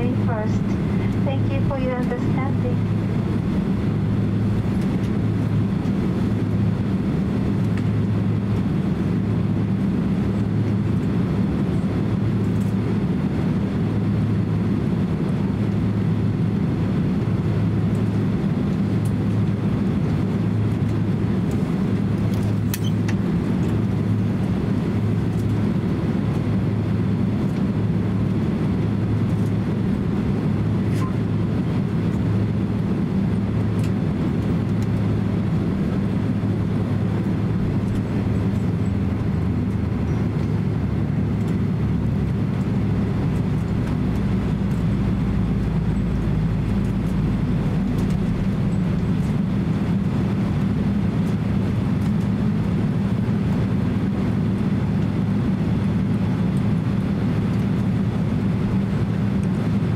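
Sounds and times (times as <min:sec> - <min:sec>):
deep rumble: 0:00.0 - 0:59.9
jet engines idling hum: 0:00.0 - 0:59.9.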